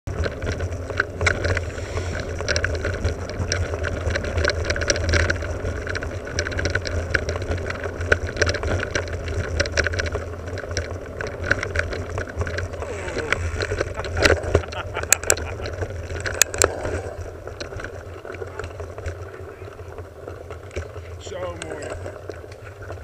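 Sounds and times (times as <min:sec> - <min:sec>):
bike rattling over roots: 0:00.1 - 0:23.0
tyre and trail rumble: 0:00.1 - 0:23.0.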